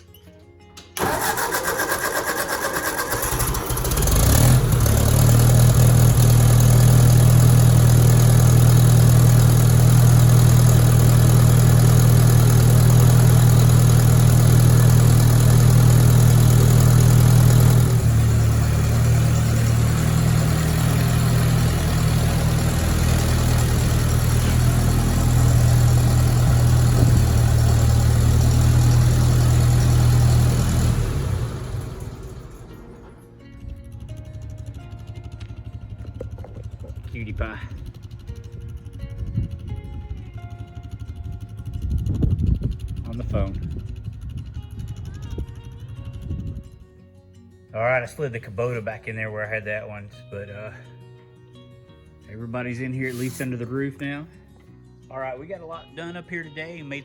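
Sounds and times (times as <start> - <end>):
diesel tractor engine starting: 0.8 - 46.8, 52.4 - 54.4.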